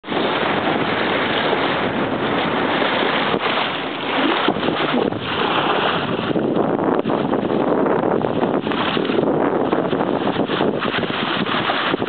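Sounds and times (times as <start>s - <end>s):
sea water rushing along hull: 0.0s - 12.0s
wind buffeting microphone: 0.0s - 12.0s.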